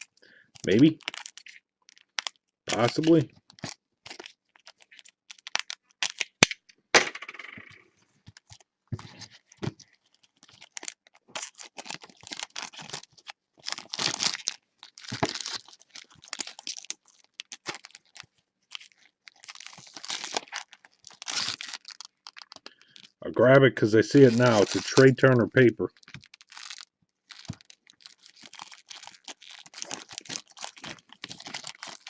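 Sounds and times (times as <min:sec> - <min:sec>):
cards and wrappers rustling: 0:00.0 - 0:32.0.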